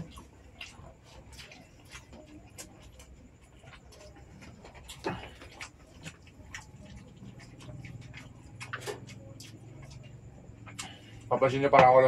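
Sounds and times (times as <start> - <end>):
chewing and slurping oysters: 0.0 - 11.4.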